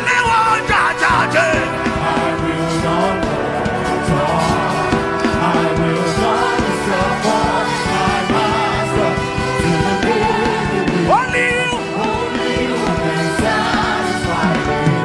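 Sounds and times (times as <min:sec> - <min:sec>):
gospel singing: 0:00.0 - 0:15.0
keyboard chords: 0:00.0 - 0:15.0
steady drum beat: 0:00.0 - 0:15.0.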